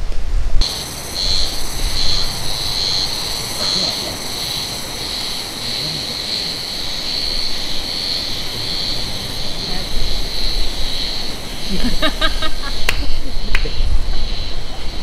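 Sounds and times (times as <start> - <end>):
cicadas buzzing: 0.6 - 15.0.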